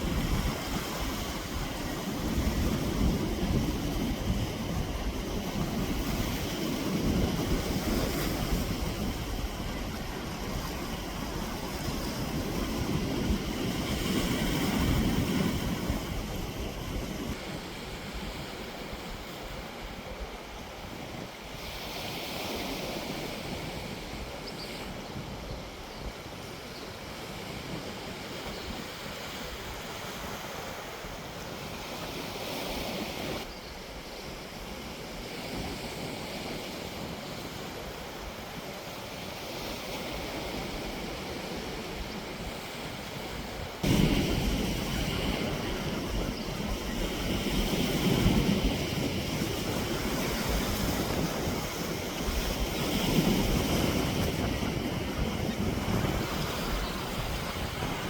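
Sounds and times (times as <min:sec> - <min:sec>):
rushing outdoor noise: 0:00.0 - 0:58.0.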